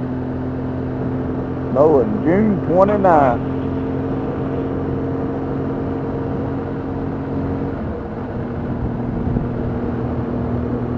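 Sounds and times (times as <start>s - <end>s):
car engine hum: 0.0s - 10.9s
road noise inside car: 0.0s - 10.9s.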